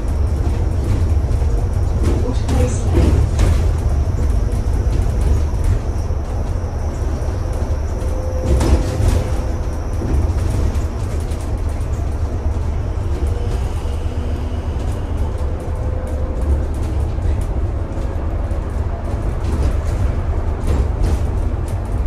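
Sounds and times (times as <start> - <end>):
bus engine and road rumble: 0.0 - 22.0
interior rattles and clicks: 0.0 - 22.0.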